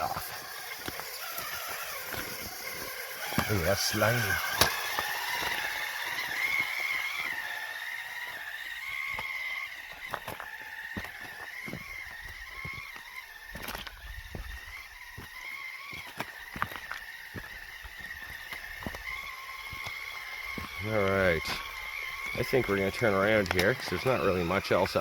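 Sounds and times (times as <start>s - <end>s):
electric motor whine: 0.0s - 25.0s
clicks and knocks on rocks: 0.1s - 25.0s.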